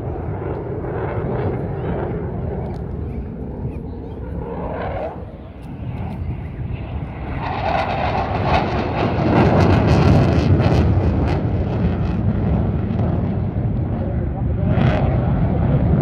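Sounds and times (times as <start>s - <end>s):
jet engines passing: 0.0s - 16.0s.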